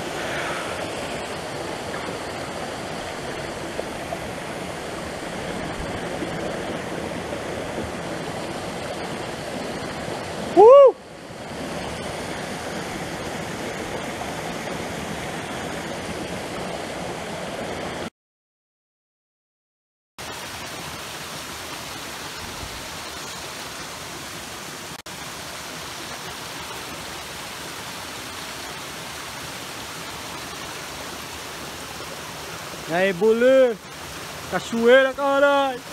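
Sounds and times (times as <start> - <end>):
waterfall rushing: 0.0 - 18.0, 20.2 - 35.9.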